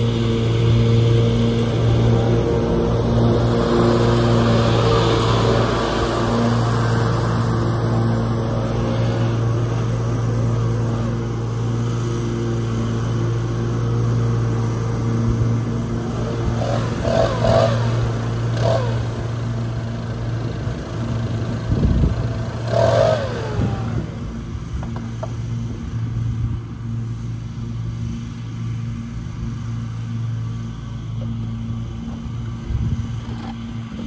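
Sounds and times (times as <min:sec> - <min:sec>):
riding mower cutting grass: 0:00.0 - 0:34.0
small gasoline engines running: 0:00.0 - 0:34.0.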